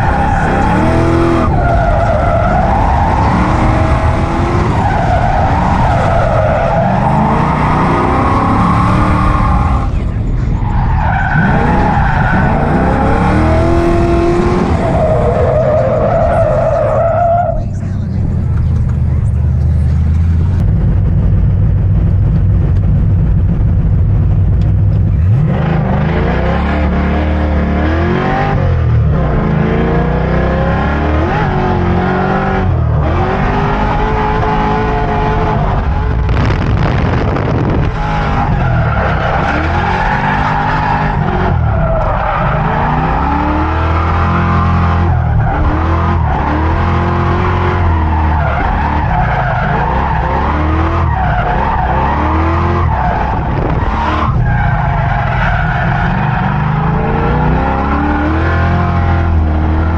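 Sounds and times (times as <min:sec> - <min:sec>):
car engine revving hard: 0:00.0 - 0:10.0, 0:11.3 - 0:17.0, 0:25.2 - 0:59.9.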